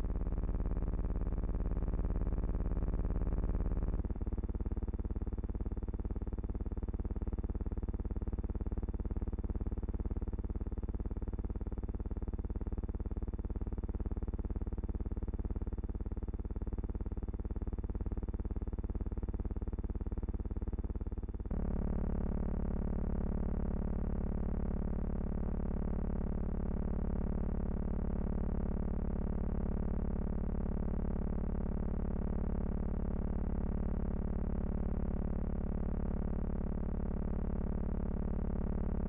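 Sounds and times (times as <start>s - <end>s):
low buzzing hum: 0.0s - 39.0s.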